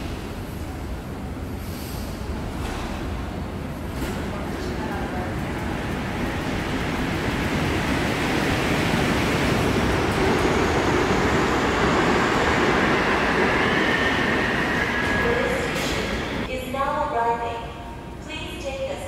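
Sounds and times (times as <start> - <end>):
train approaching rumble: 0.0 - 16.5.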